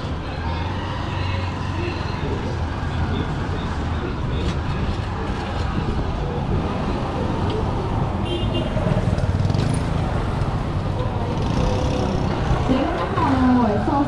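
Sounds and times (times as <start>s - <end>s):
faint voices: 0.0s - 8.2s, 10.0s - 14.0s
vehicles running by: 0.0s - 14.0s.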